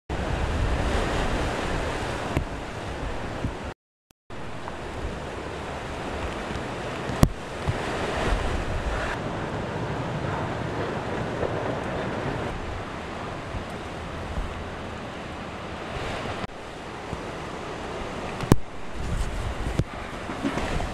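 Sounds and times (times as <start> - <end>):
hurricane winds roaring: 0.1 - 20.9.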